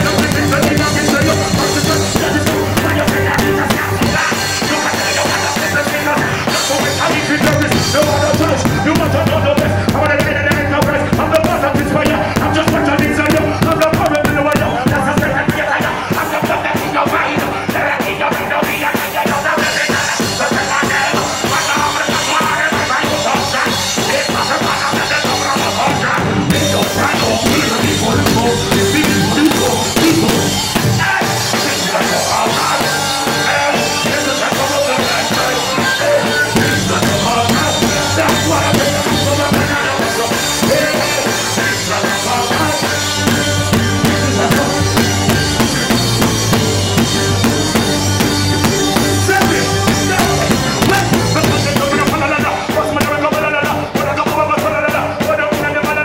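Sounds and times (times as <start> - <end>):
drum kit and cymbals: 0.0 - 56.0
live reggae band: 0.0 - 56.0.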